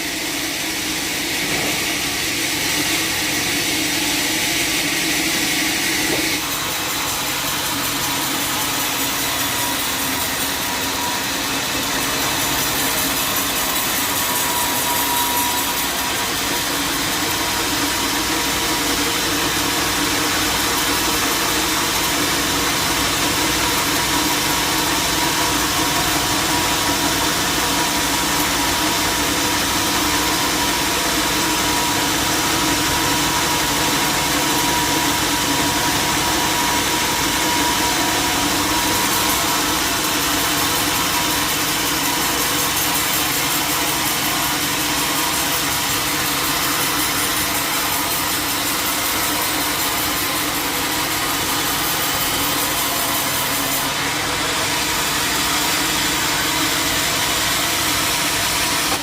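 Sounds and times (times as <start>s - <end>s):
sawmill engine running steadily: 0.0s - 59.0s.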